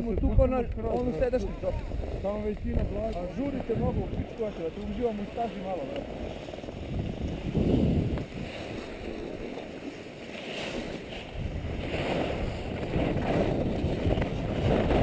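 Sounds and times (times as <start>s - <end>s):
wind buffeting microphone: 0.0s - 15.0s
skis scraping over snow: 0.8s - 15.0s.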